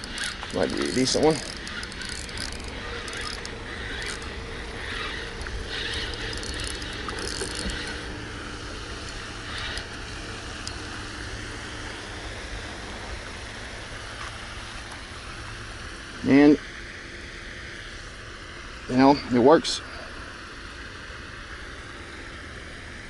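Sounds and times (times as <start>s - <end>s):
fishing reel cranking whirr: 0.0s - 19.2s.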